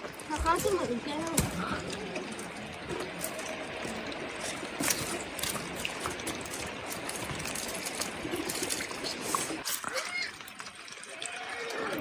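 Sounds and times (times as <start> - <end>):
rain hissing: 0.0 - 10.4.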